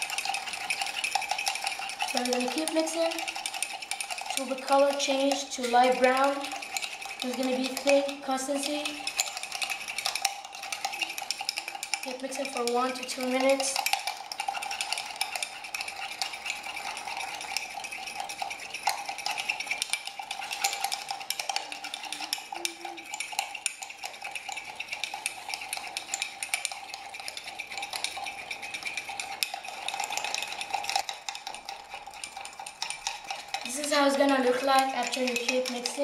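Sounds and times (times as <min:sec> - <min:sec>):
teaspoon clinking against mug: 0:00.0 - 0:36.0.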